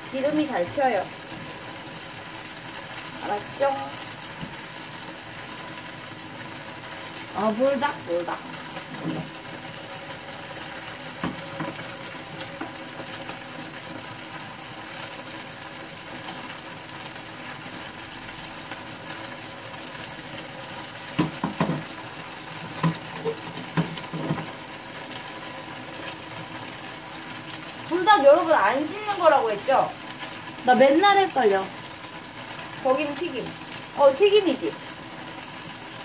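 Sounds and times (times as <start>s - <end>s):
oil sizzling in a frying pan: 0.0s - 36.0s.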